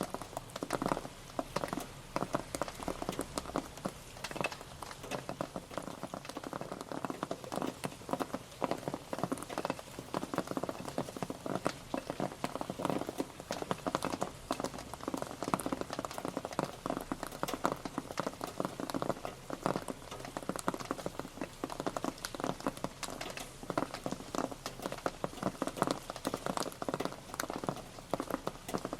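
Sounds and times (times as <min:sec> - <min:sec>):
rain pattering: 0:00.0 - 0:28.9.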